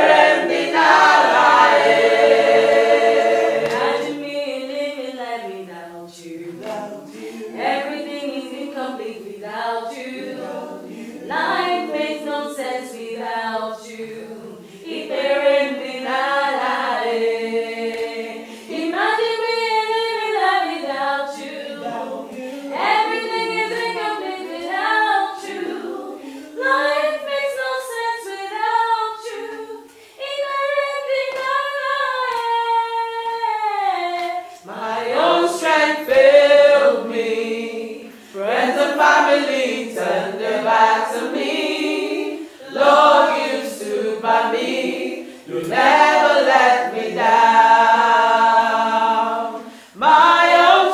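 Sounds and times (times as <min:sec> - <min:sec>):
group singing a cappella: 0:00.0 - 0:50.9.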